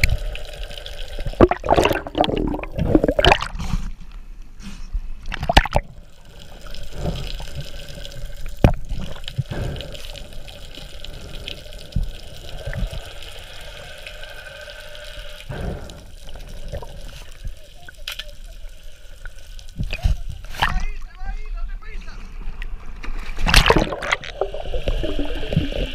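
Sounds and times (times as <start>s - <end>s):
underwater bubbling and splashing: 0.0s - 3.9s, 5.2s - 20.9s, 22.6s - 25.9s
muffled rush of water: 0.0s - 4.2s, 5.2s - 21.4s, 22.3s - 25.9s.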